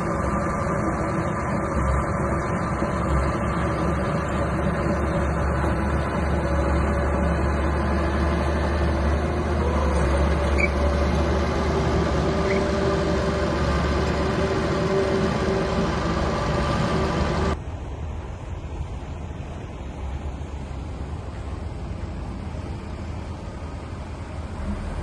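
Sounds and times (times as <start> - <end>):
bulldozer diesel engine droning: 0.0 - 25.0.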